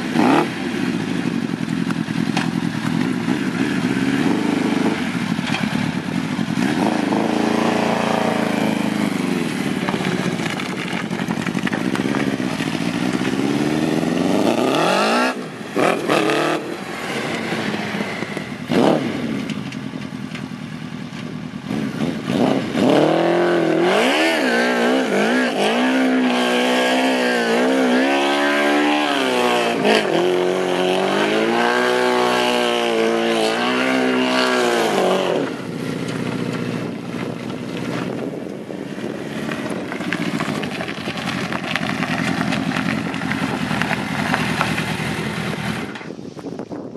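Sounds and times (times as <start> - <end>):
motorcycle engine revving: 0.0 - 46.2.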